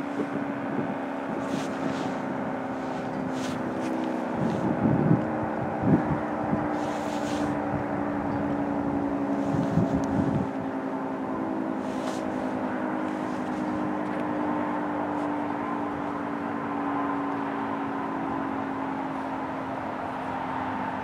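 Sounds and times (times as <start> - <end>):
dual-tone warning siren: 0.0 - 21.0.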